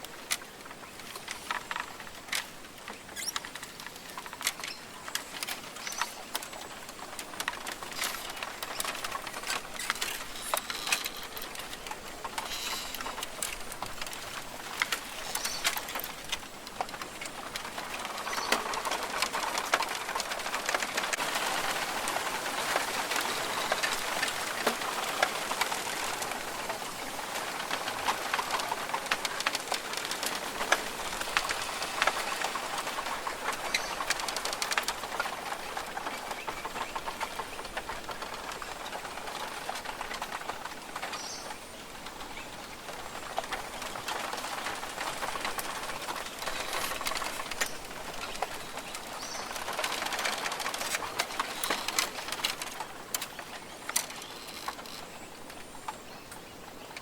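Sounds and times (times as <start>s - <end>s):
birds calling: 0.2s - 26.2s, 29.9s - 57.0s.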